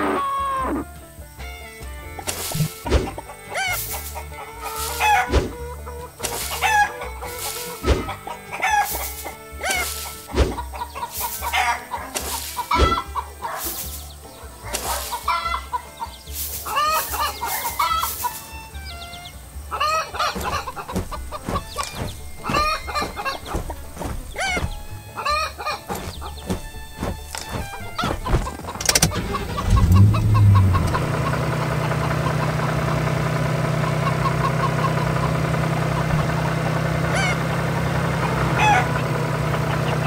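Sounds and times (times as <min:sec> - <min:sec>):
hens clucking: 0:00.0 - 0:01.0, 0:02.0 - 0:40.0.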